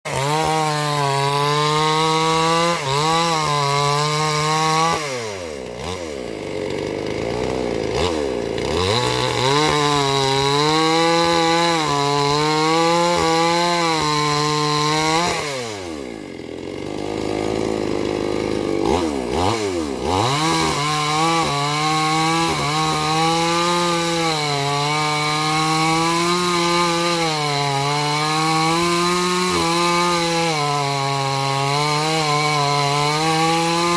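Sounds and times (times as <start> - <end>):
chainsaw cutting log: 0.1 - 33.9.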